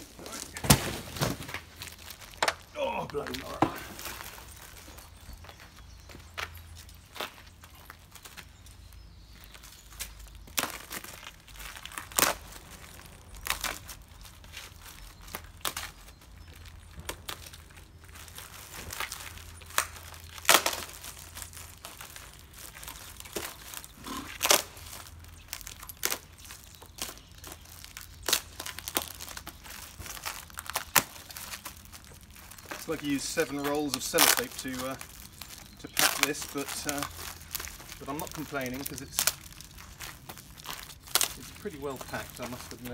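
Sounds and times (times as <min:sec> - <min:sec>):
tape ripping: 0:00.0 - 0:04.8, 0:09.9 - 0:16.2, 0:16.8 - 0:42.9
plastic wrap crinkling: 0:00.0 - 0:42.9.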